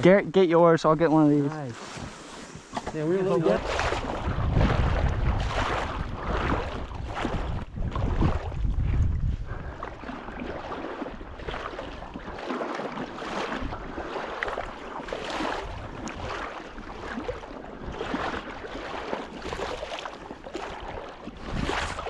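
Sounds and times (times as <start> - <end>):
wading through shallow water: 0.0 - 22.0
wind on microphone: 3.4 - 12.5, 13.2 - 22.0.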